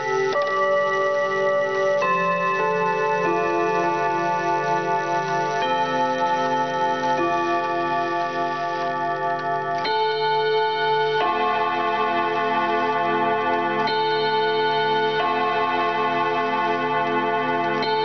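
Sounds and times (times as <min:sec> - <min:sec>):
chime clock notes: 0:00.0 - 0:18.0.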